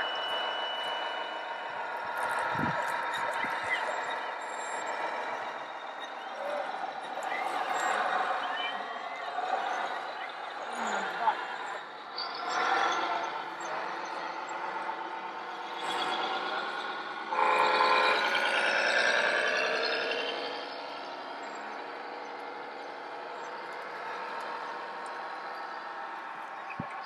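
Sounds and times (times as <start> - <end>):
electronic diesel engine sound: 0.0 - 27.0.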